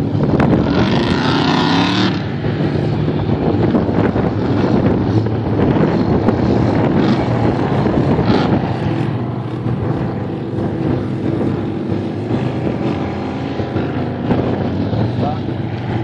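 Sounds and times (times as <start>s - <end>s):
engine running steadily: 0.0s - 16.0s
wind buffeting microphone: 0.0s - 16.0s.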